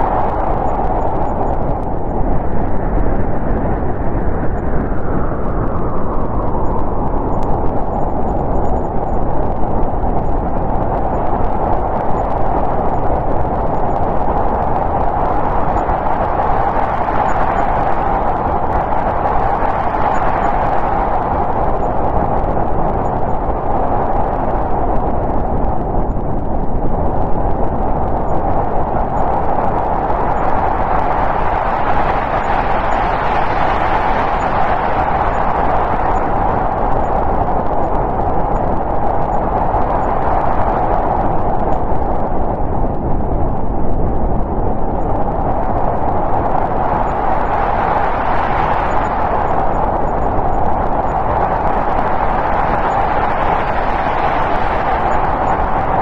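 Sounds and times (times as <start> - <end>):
snowstorm wind blowing: 0.0 - 56.0.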